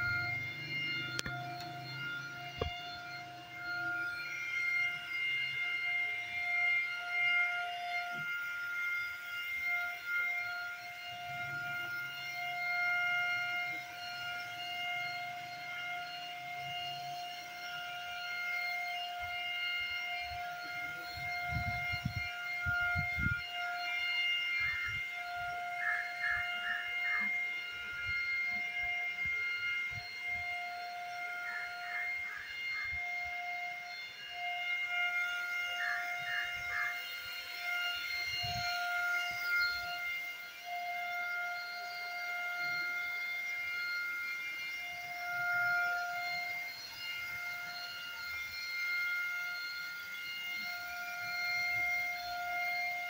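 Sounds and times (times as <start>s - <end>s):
paint spray gun motor whine: 0.0s - 53.0s.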